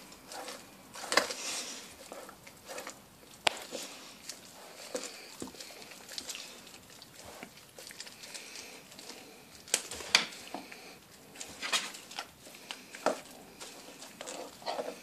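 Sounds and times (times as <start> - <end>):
dog crunching on bone: 0.0 - 15.0.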